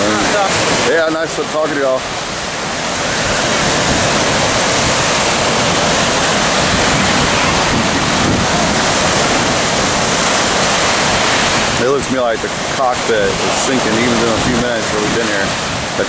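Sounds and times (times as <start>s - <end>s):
surf breaking on beach: 0.0s - 16.0s.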